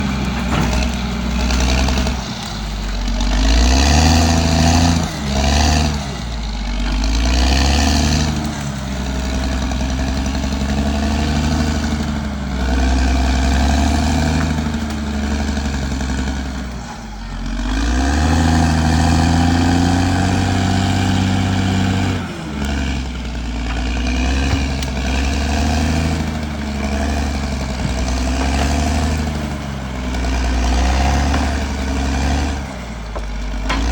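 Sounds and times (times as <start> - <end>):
bulldozer diesel engine revving: 0.0 - 33.9.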